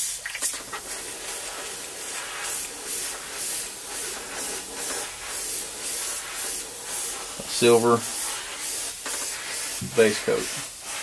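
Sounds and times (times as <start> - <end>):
airbrush spraying hiss: 0.0 - 11.0.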